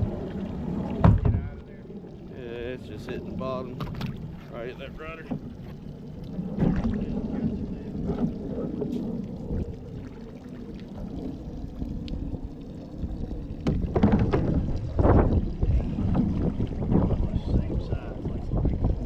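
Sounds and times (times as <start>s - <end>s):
wind and water around a boat: 0.0s - 19.0s.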